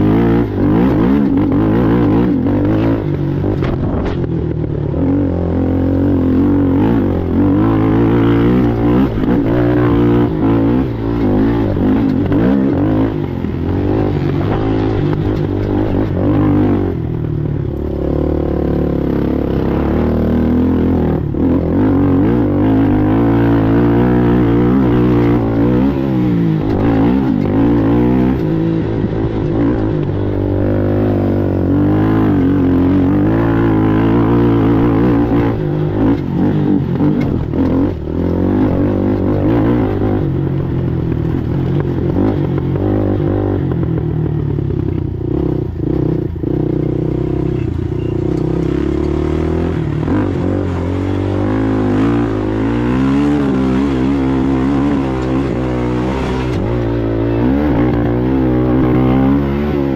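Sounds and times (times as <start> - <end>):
atv engine running hard: 0.0 - 59.9.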